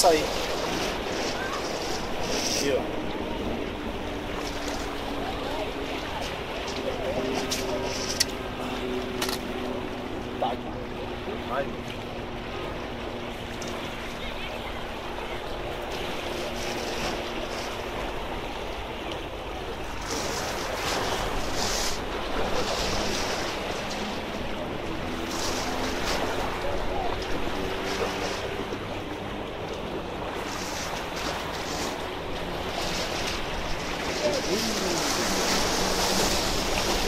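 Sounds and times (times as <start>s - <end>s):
waves splashing against rocks: 0.0s - 37.0s.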